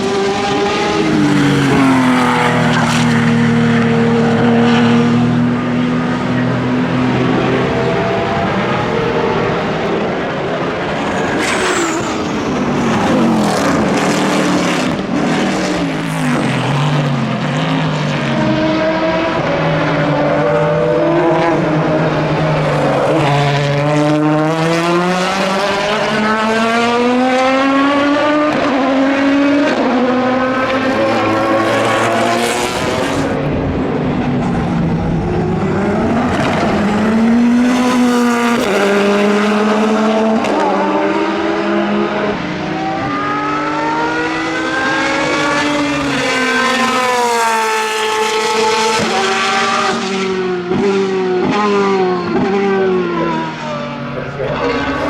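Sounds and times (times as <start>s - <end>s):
racing car accelerating: 0.0s - 55.0s
racing car engines: 0.0s - 55.0s.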